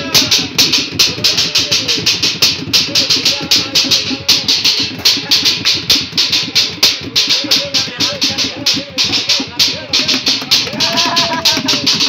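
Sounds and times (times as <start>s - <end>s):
hand drumming on plastic containers: 0.0s - 12.0s
metal pot beaten with stick: 0.0s - 12.0s
voices calling out: 0.0s - 12.0s.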